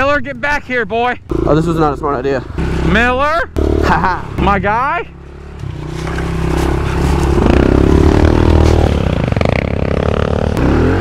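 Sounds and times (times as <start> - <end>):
motorbike engine revving: 1.2 - 11.0.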